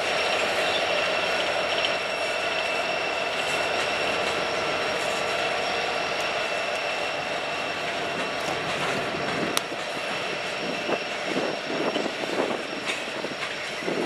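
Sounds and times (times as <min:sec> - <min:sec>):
thin high wheel squeal: 0:00.0 - 0:14.0
train wheels rumbling and rattling: 0:00.0 - 0:14.0.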